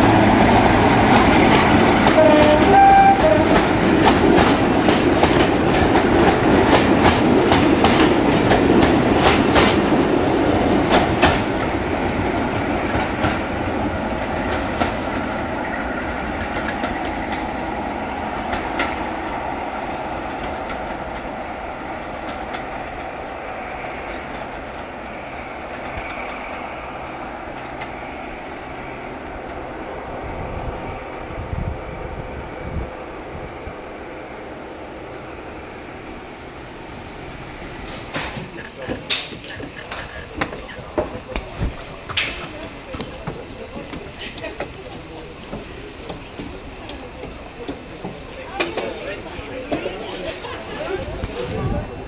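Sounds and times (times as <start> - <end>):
train wheels clicking over rail joints: 0.0 - 29.8, 37.8 - 52.0
diesel locomotive engine: 0.0 - 52.0.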